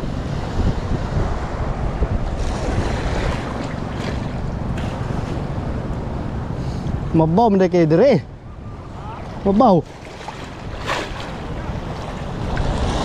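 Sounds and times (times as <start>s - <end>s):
sea waves breaking: 0.0s - 13.0s
wind buffeting microphone: 0.0s - 13.0s.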